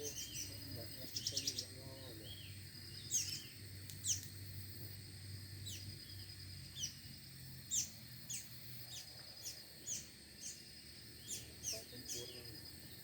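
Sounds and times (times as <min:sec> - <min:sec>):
small bird chirping: 0:00.0 - 0:04.4, 0:05.6 - 0:13.0.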